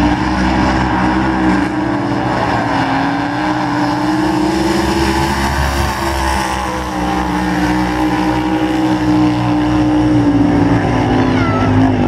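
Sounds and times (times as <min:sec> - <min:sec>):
engines running hard: 0:00.0 - 0:12.0.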